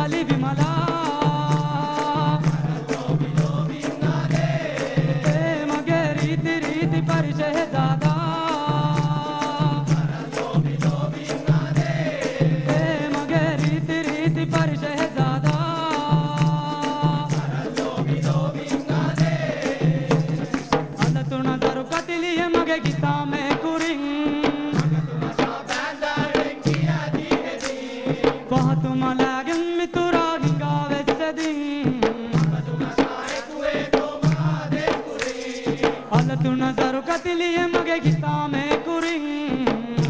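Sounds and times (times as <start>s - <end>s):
hand drums beaten: 0.0s - 40.0s
man singing: 0.0s - 40.0s.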